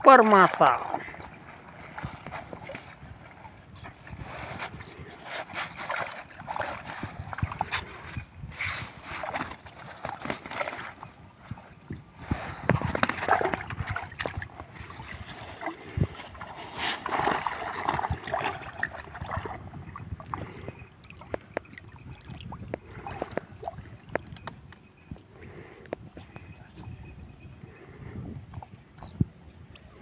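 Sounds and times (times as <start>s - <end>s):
water sloshing and splashing: 0.1s - 24.9s.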